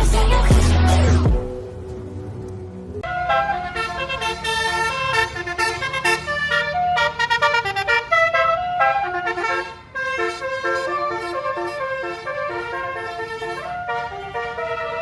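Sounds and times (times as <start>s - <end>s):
multi-tone bus horn melody: 3.0s - 15.0s.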